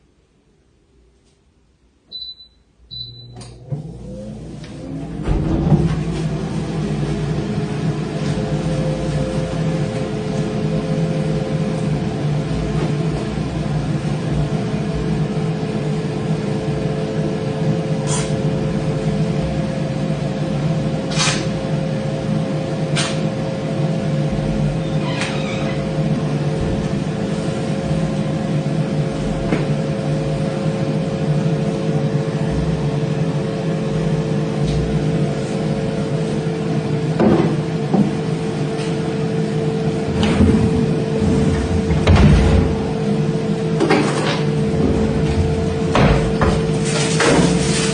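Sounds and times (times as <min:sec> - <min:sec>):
steady mechanical hum: 0:00.0 - 0:47.9.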